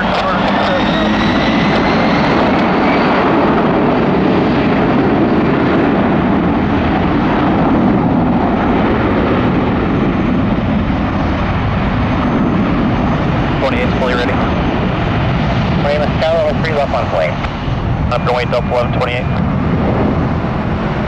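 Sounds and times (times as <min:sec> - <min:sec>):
jet engine noise at takeoff: 0:00.0 - 0:21.0.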